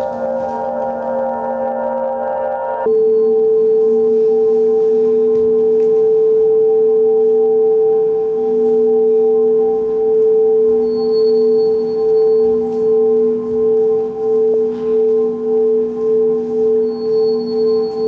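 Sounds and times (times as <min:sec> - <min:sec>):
ambient drone music: 0:00.0 - 0:18.0.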